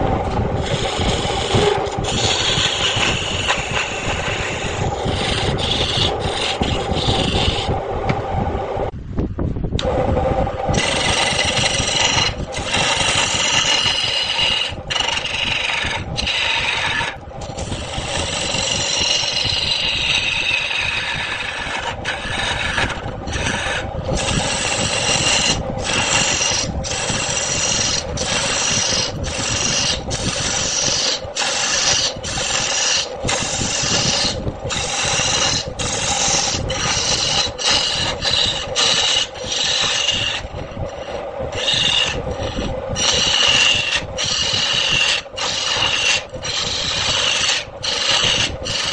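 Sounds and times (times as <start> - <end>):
turning tool rasping on wood: 0.0 - 8.2, 9.8 - 48.9
wood lathe humming: 0.0 - 9.0, 9.8 - 48.9.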